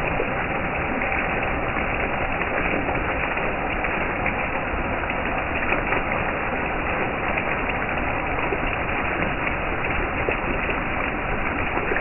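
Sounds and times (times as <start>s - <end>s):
water jets splashing on jars: 0.0s - 12.0s.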